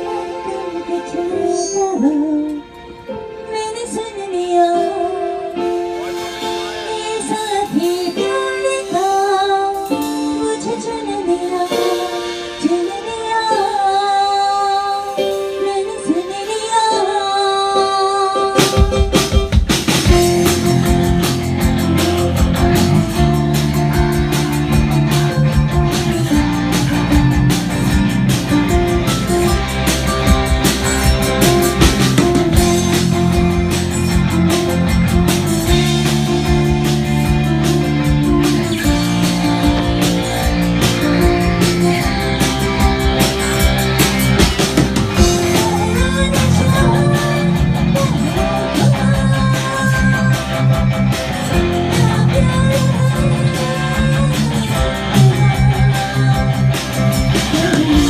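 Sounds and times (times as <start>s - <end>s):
person singing: 0.0s - 19.1s, 22.0s - 50.8s, 51.4s - 58.0s
live band playing: 0.0s - 58.0s
drums and bass: 5.6s - 13.9s, 18.6s - 58.0s.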